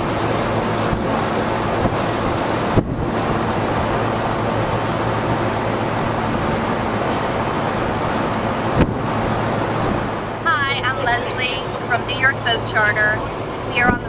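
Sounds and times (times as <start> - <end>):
low engine drone: 0.0 - 14.0
wind and water rushing: 0.0 - 14.0.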